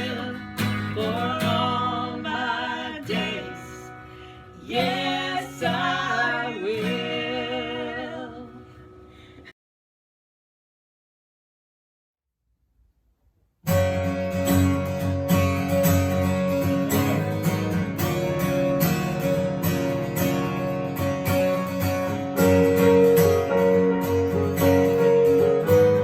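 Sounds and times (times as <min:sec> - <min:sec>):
acoustic guitar strumming: 0:00.0 - 0:09.2, 0:13.7 - 0:26.0.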